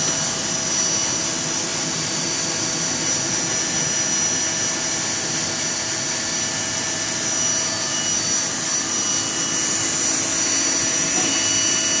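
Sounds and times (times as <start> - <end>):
coffee roaster air blower rushing: 0.0 - 12.0
thin high whine: 0.0 - 12.0.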